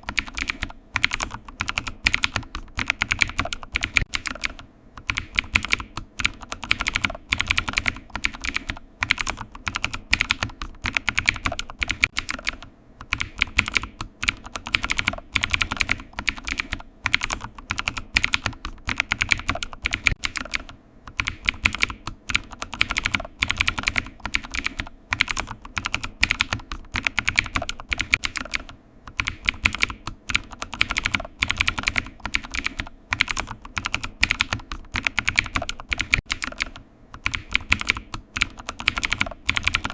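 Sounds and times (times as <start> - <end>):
typing on a computer keyboard: 0.0 - 39.9.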